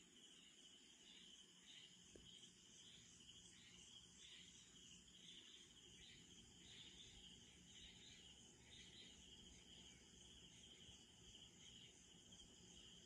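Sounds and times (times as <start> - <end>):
high insect hiss: 0.0 - 13.0
night insects trilling: 0.0 - 13.0.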